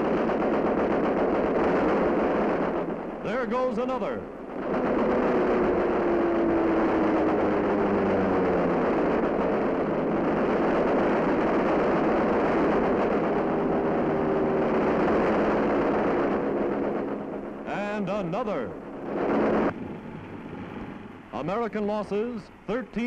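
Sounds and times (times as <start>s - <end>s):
aircraft engines roaring in flight: 0.0s - 23.0s.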